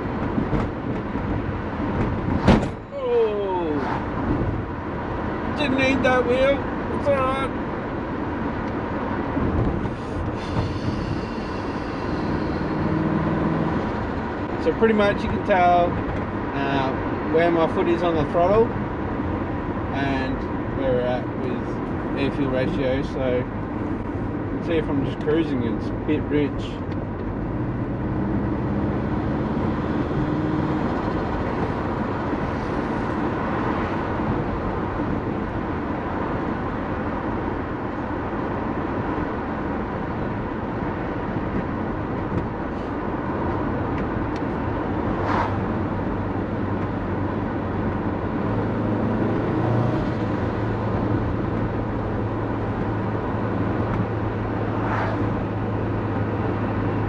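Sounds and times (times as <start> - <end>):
car engine running: 0.0 - 57.0
road noise: 0.0 - 57.0.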